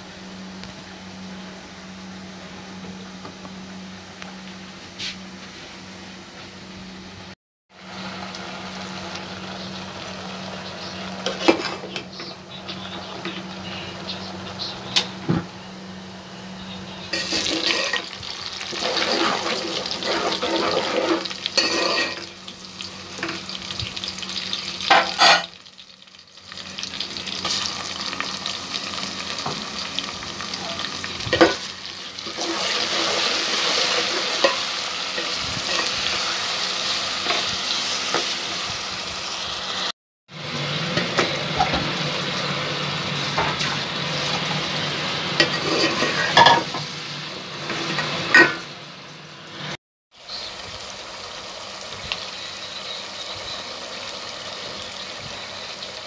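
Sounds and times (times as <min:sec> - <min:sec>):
onions sizzling in hot oil: 0:07.7 - 0:56.0.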